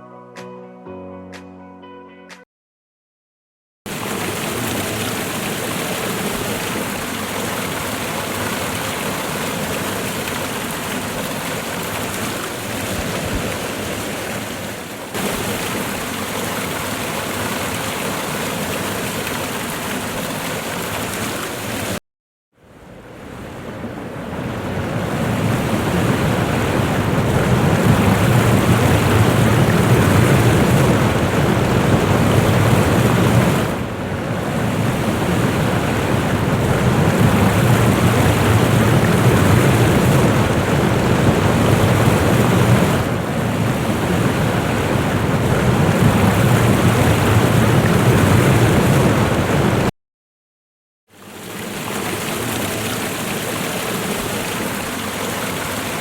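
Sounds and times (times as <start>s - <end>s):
waterfall roaring: 3.9s - 22.0s, 24.1s - 49.9s, 51.2s - 56.0s.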